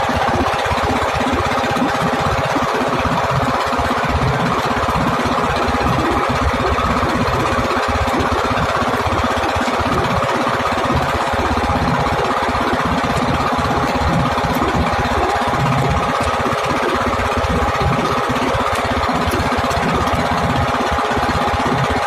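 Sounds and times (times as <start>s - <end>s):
boat engine knocking steadily: 0.0s - 22.0s.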